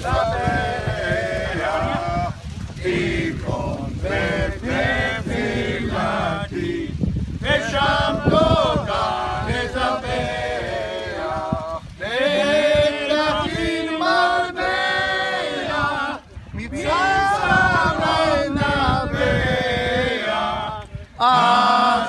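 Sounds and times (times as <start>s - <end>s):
men and children singing: 0.0s - 22.0s.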